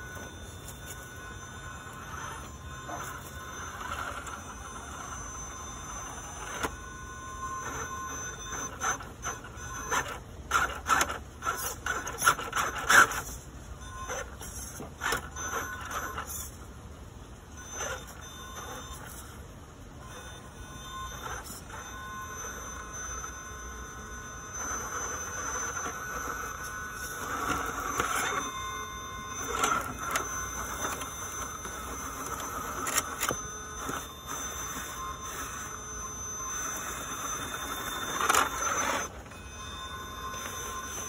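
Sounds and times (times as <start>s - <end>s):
electric motor and gears whining: 0.0s - 41.0s.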